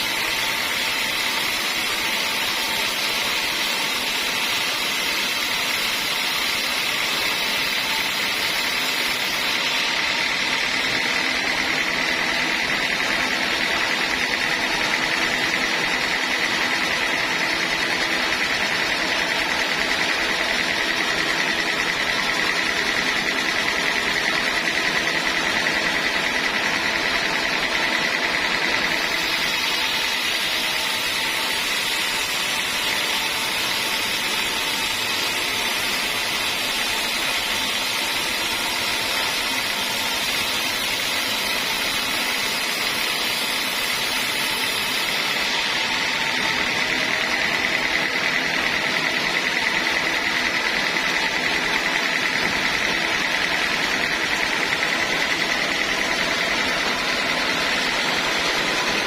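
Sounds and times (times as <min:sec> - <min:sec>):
saw whining: 0:00.0 - 0:59.0.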